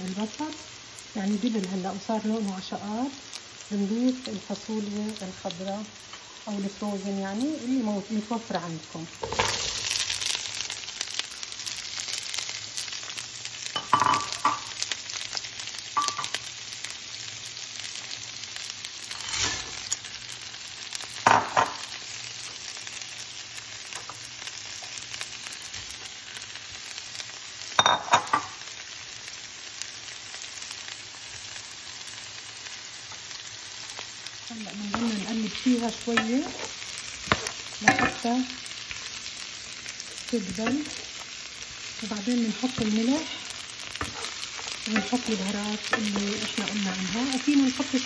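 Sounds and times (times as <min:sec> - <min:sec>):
beans sizzling in hot oil: 0:00.0 - 0:48.0.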